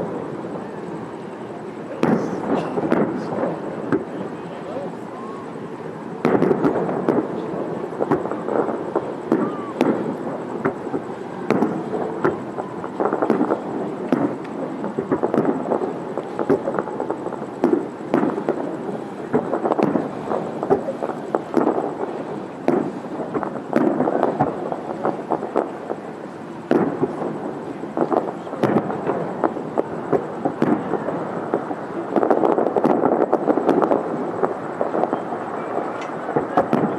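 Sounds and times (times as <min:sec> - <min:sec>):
fireworks booming and crackling: 0:00.0 - 0:36.9.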